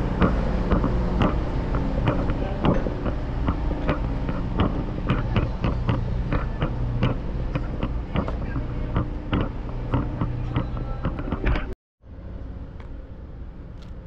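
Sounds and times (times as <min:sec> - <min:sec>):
footsteps on steel deck: 0:00.0 - 0:11.8
ship engines droning: 0:00.0 - 0:14.0.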